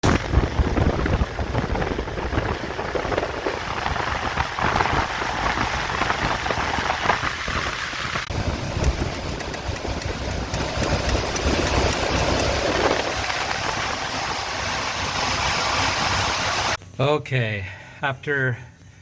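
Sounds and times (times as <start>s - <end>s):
engine running low pulsing: 0.0s - 17.0s.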